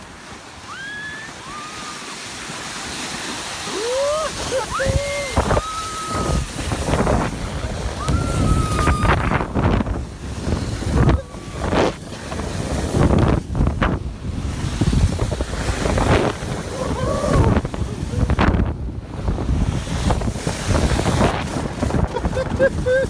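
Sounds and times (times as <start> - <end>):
snow tube bumps: 0.0 - 23.0
snow tube sliding on ice: 0.0 - 23.0
wind on microphone: 3.2 - 23.0.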